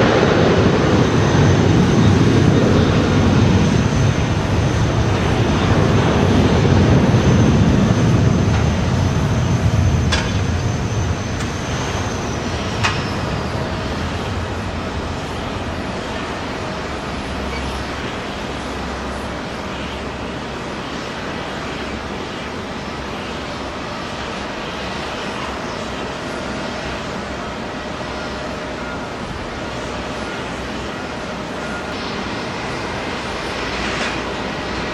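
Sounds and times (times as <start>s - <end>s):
high engine whine: 0.0s - 34.9s
jet engines rumbling: 0.0s - 34.9s.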